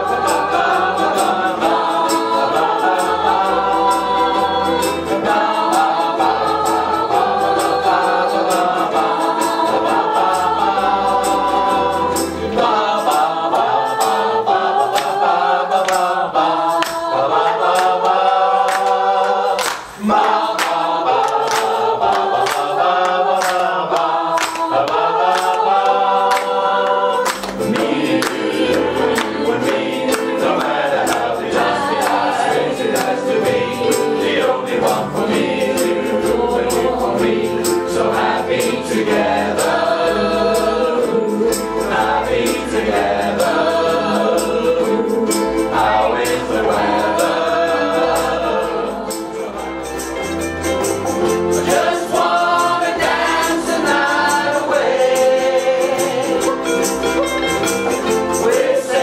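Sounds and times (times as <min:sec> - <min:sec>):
group singing: 0:00.0 - 0:59.0
ukuleles strumming: 0:00.0 - 0:59.0.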